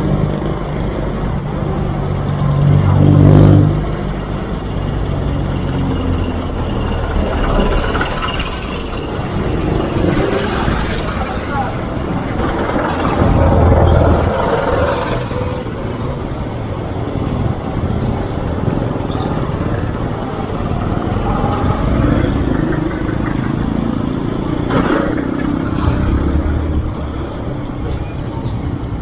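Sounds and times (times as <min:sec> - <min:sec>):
vehicles passing close by: 0:00.0 - 0:29.0.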